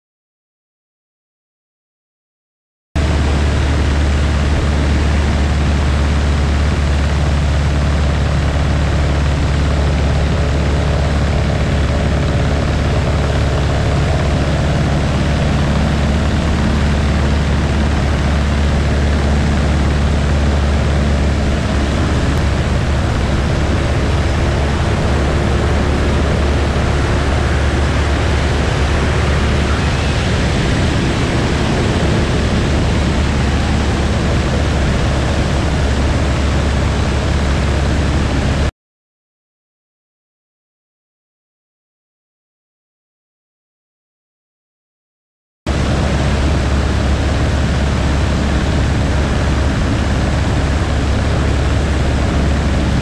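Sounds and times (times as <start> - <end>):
propeller airplane engine drone: 3.0 - 38.7, 45.7 - 53.0.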